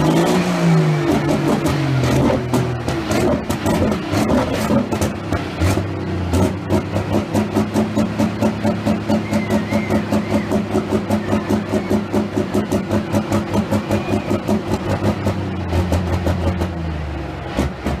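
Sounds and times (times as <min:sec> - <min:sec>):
engine throttle blips: 0:00.0 - 0:18.0
tractor engine idling: 0:01.5 - 0:18.0.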